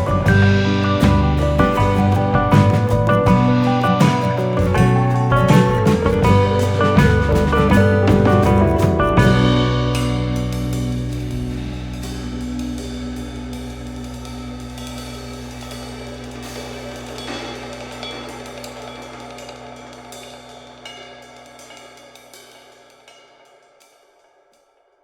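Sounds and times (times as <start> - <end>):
music with drums and cymbals: 0.0 - 24.8.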